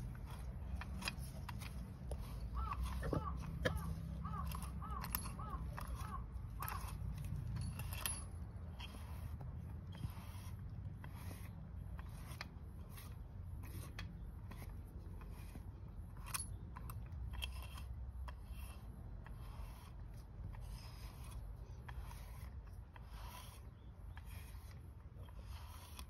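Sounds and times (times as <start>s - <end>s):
brush rasping through cat fur: 0.0s - 26.0s.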